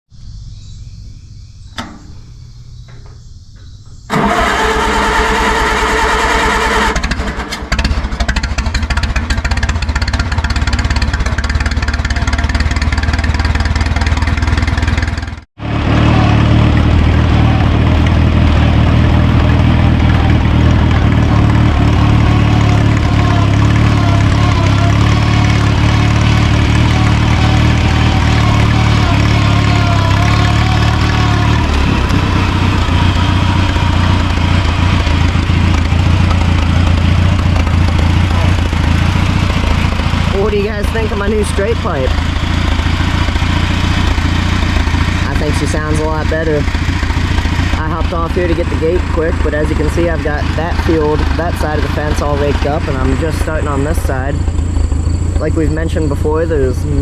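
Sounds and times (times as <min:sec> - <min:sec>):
tractor engine running loudly: 0:01.8 - 0:57.0.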